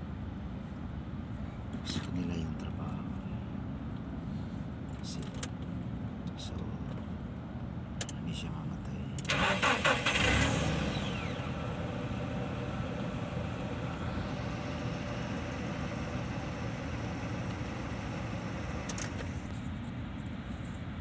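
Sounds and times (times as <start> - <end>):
vehicle engine idling: 0.6 - 21.0.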